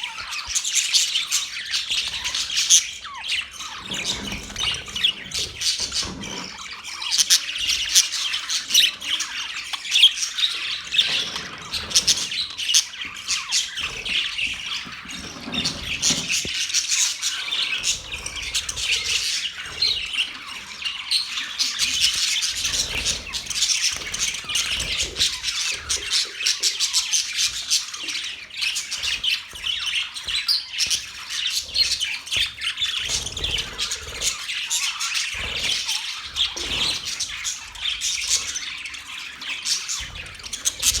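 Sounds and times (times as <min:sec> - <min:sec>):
budgerigars chirping and chattering: 0:00.0 - 0:41.0.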